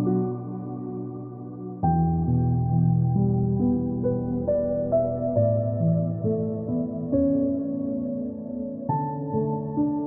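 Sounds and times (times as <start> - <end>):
slow ambient music: 0.0 - 10.0.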